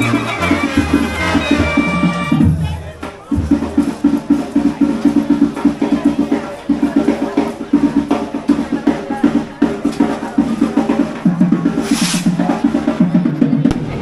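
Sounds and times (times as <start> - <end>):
drum beaten fast: 0.0 - 14.0.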